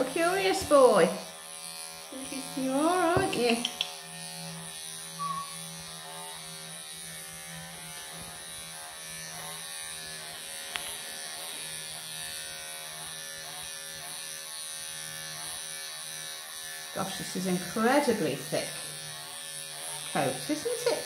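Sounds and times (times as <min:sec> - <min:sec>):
electric clippers buzzing: 0:00.0 - 0:21.0.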